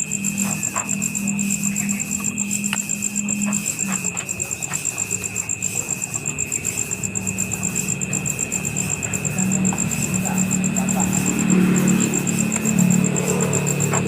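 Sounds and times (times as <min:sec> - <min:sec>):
insects chirping: 0:00.0 - 0:14.0
low insect whine: 0:00.0 - 0:14.0.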